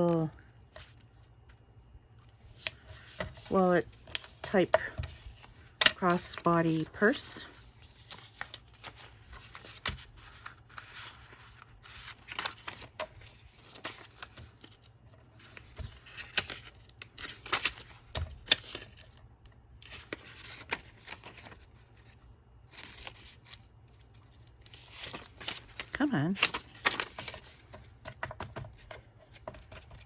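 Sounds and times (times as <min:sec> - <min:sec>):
paper rustling and scraping: 0:02.5 - 0:19.2, 0:19.8 - 0:30.0.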